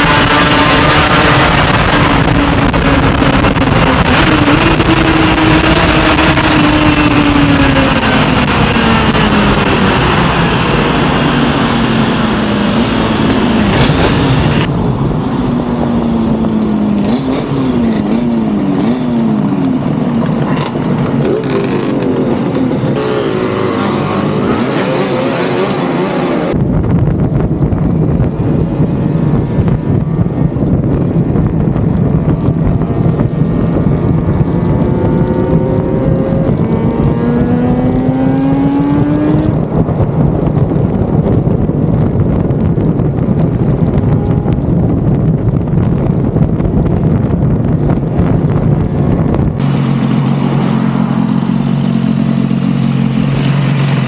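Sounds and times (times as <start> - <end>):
motorcycle engine revving: 0.0 - 26.6, 28.2 - 54.0.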